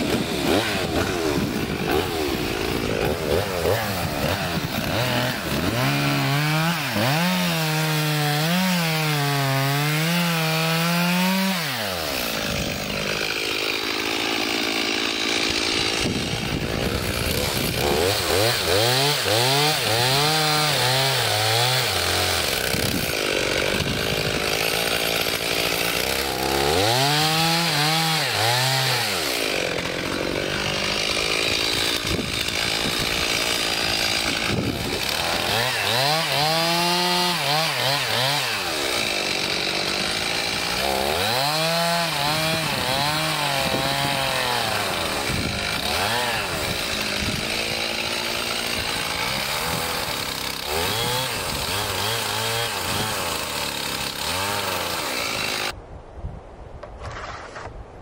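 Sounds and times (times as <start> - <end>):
chainsaw cutting wood: 0.0 - 55.8.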